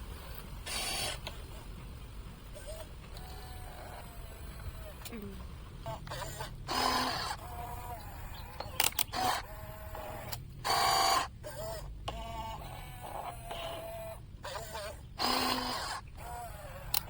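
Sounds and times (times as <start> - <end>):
small electric motors whirring: 0.0 - 1.4, 2.5 - 17.0.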